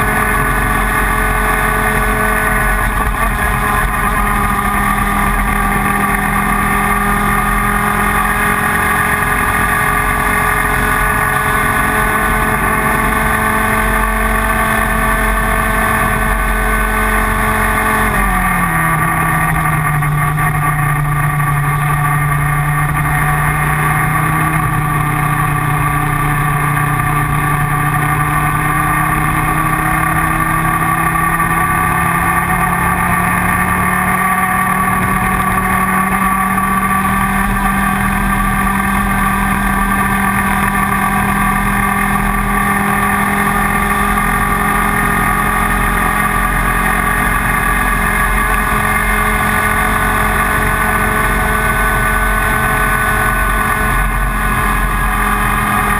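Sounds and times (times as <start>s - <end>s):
two-stroke kart engine running: 0.0s - 55.9s.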